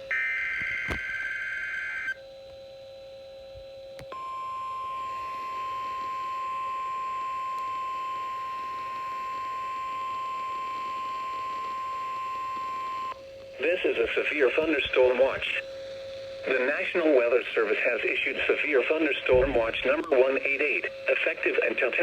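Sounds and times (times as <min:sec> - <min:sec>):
faint hum: 0:00.0 - 0:22.0
steady warning alarm tone: 0:00.0 - 0:22.0.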